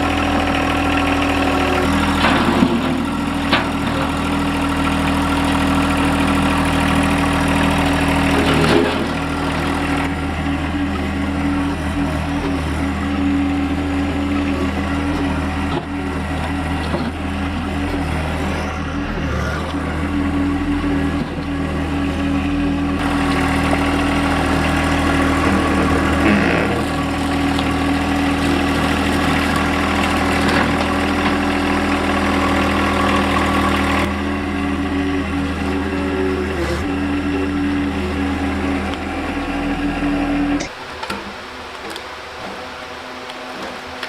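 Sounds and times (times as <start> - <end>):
sawmill engine running: 0.0 - 44.0.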